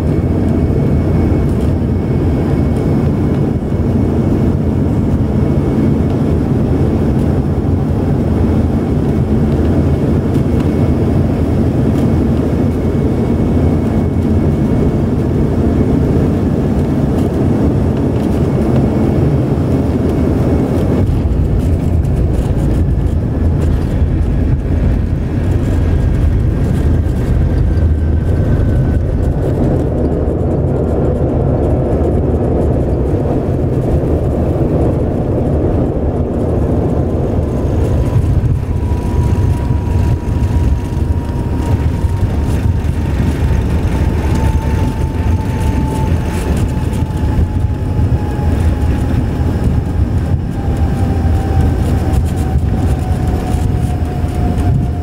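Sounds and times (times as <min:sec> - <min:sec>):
airliner engine and air rush: 0:00.0 - 0:55.0
low runway rumble: 0:00.0 - 0:55.0.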